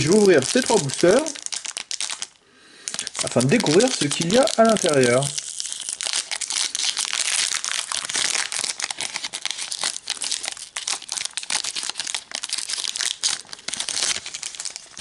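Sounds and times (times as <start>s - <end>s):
foil wrapper crinkling: 0.0s - 15.0s.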